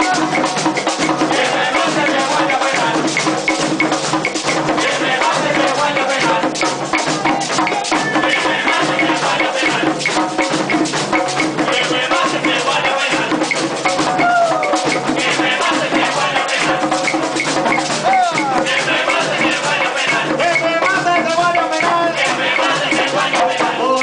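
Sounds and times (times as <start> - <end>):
hand frame drums beaten: 0.0 - 24.0.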